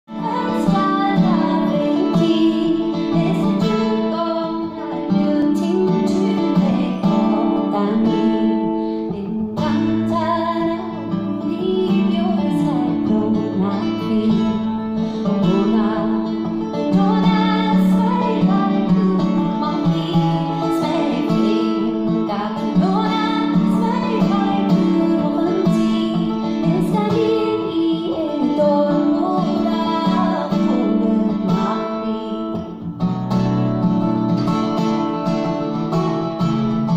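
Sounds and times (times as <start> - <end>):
woman singing: 0.1 - 33.0
strummed acoustic guitar: 0.1 - 36.9.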